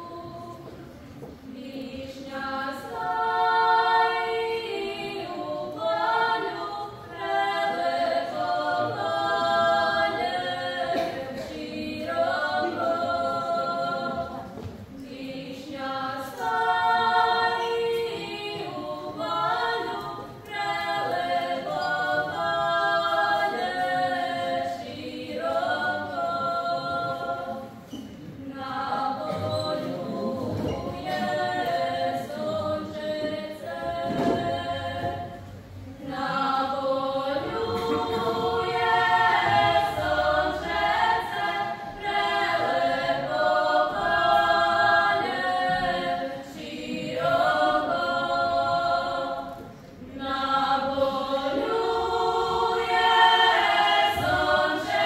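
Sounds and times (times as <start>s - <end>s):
women singing in harmony: 0.0s - 55.0s.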